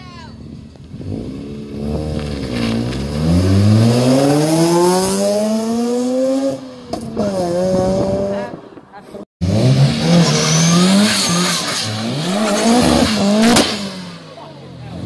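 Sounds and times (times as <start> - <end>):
rotary engine revving: 0.8 - 8.6, 9.4 - 15.0.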